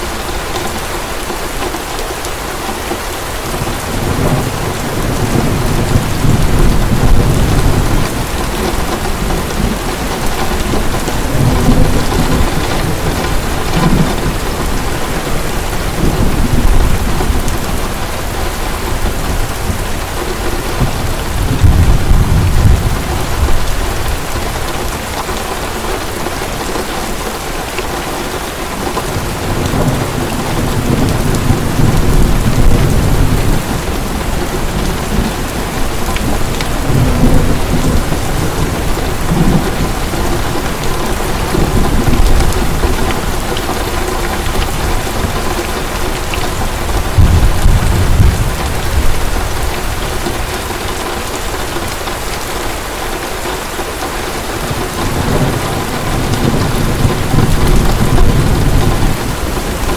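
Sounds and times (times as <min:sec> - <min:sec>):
heavy rain falling: 0:00.0 - 0:59.9
thunder rolling: 0:03.5 - 0:25.2, 0:29.0 - 0:51.9, 0:54.6 - 0:59.9.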